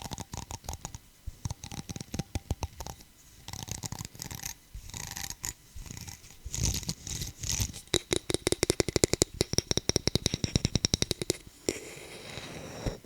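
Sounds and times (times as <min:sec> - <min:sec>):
hand scratching and rubbing object: 0:00.0 - 0:13.0.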